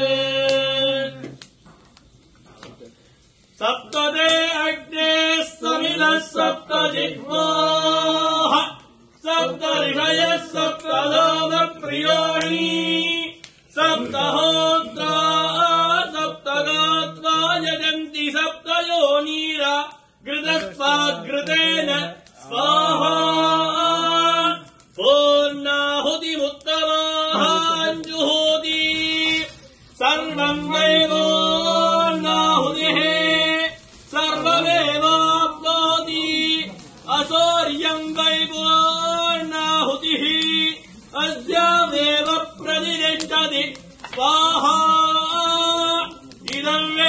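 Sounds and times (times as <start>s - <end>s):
priests chanting in melodic recitation: 0.0s - 1.6s, 2.8s - 47.0s.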